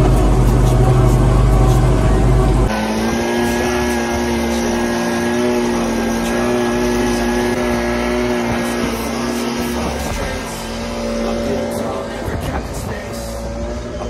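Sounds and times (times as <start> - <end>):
combine harvester humming: 0.0 - 14.0.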